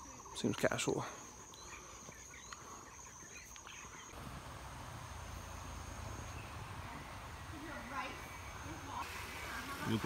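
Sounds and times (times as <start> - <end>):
low outdoor rush: 0.0 - 10.0.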